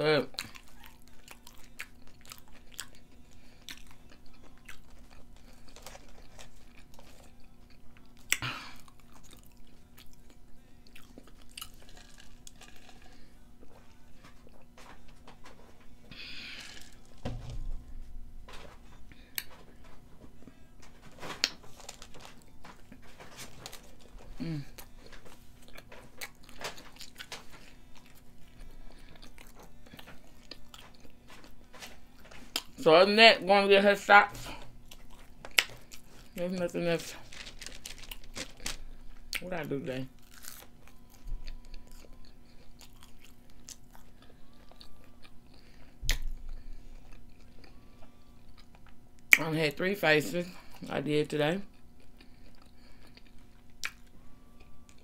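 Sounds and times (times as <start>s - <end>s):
faint steady hum: 0.0s - 55.0s
person chewing food: 0.2s - 17.2s, 18.5s - 20.7s, 21.3s - 32.8s, 34.4s - 36.4s, 37.0s - 49.4s, 51.6s - 55.0s.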